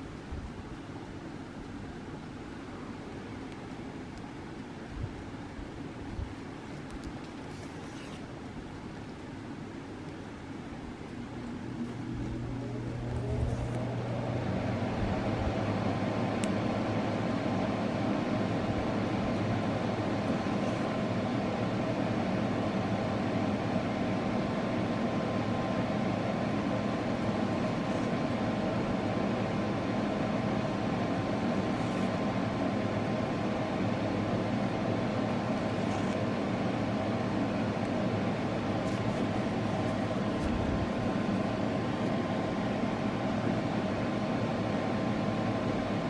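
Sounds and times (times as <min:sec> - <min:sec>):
mechanical hum: 0:00.0 - 0:46.0.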